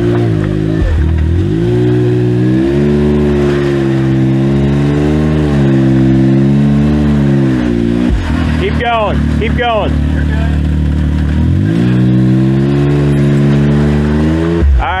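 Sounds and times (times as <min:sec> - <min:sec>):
vehicle engine at low throttle: 0:00.0 - 0:15.0.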